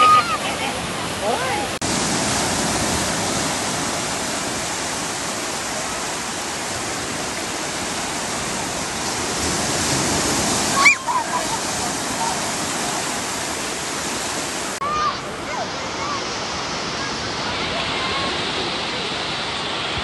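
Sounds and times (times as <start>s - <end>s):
surf breaking on beach: 0.0s - 20.0s.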